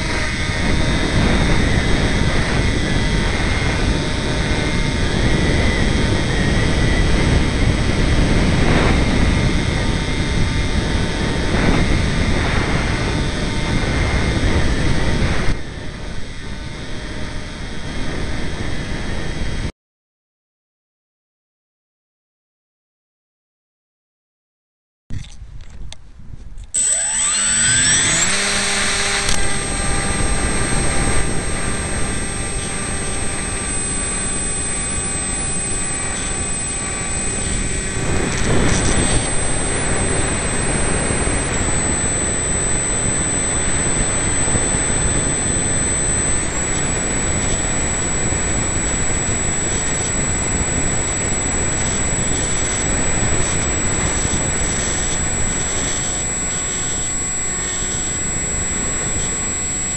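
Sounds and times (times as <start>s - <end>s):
electric motor and propeller whine: 0.0s - 19.7s, 26.6s - 59.9s
wind buffeting on microphone: 0.0s - 19.7s, 25.1s - 26.8s, 27.6s - 59.9s.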